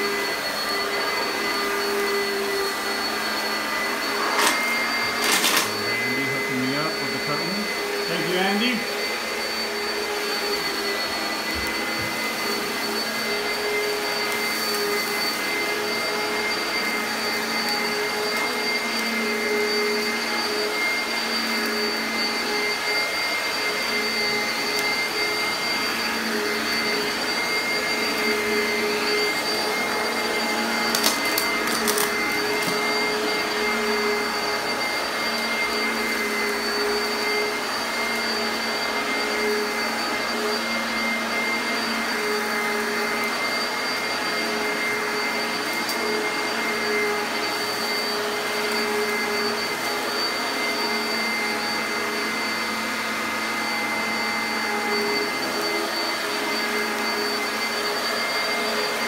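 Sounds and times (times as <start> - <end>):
vacuum cleaner motor whine: 0.0 - 59.0.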